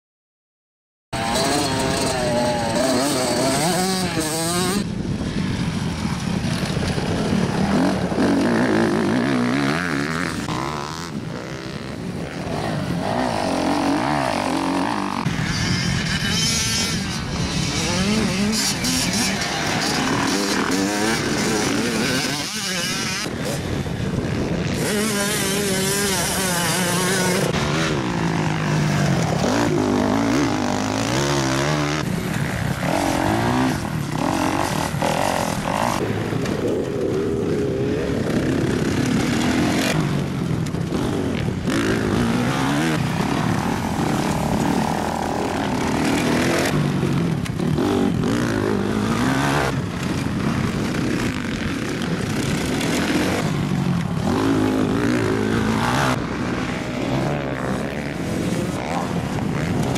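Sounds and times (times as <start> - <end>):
dirt bike engines revving: 1.2 - 59.9.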